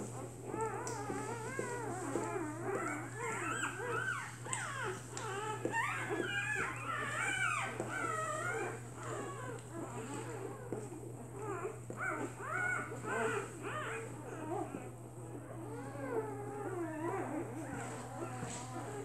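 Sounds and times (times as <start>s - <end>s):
puppies whimpering and squeaking: 0.0s - 19.0s.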